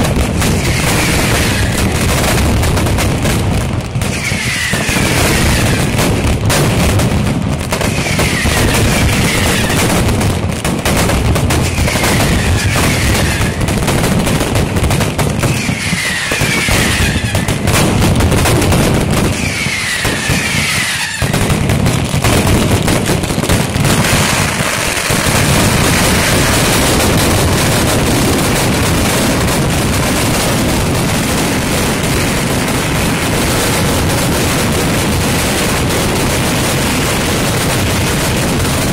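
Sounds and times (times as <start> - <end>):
firecrackers exploding: 0.0 - 38.9.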